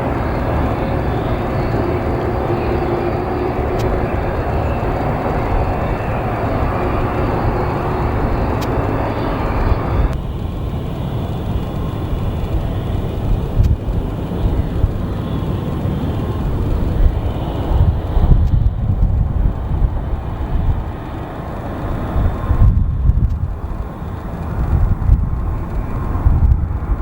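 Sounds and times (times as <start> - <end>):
airliner engine and airflow rush: 0.0 - 27.0
low rumble: 0.0 - 27.0.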